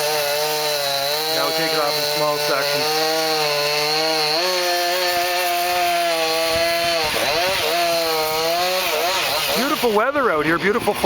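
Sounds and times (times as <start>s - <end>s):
two-stroke chainsaw running: 0.0s - 11.0s.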